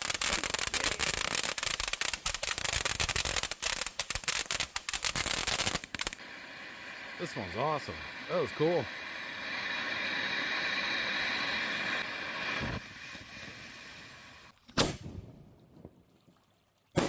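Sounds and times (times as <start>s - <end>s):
firework fountain hissing: 0.0s - 14.6s.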